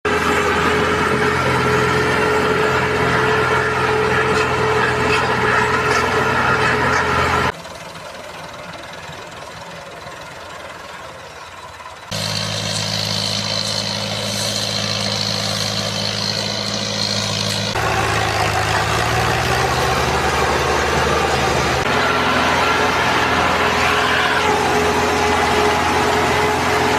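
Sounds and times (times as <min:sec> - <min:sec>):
combine harvester engine running: 0:00.0 - 0:26.9.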